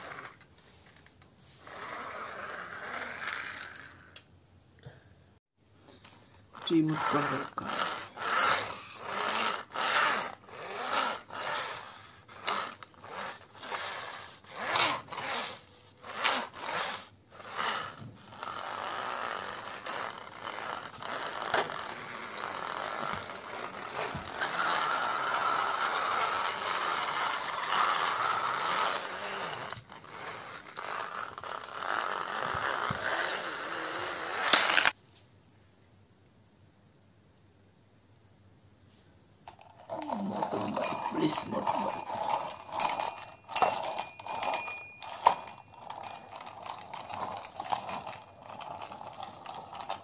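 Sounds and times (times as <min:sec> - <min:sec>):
toy car wheels rolling on floor: 0:00.0 - 0:04.3, 0:05.8 - 0:35.0, 0:39.4 - 0:50.0.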